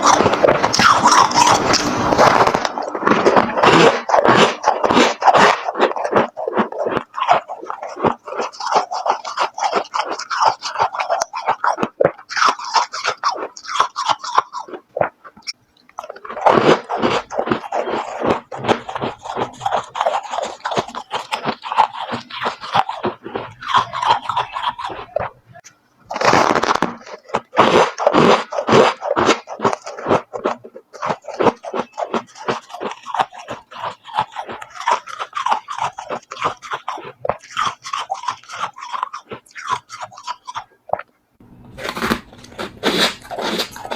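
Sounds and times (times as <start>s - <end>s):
chewing crunchy frost: 0.0s - 41.1s, 41.7s - 43.9s.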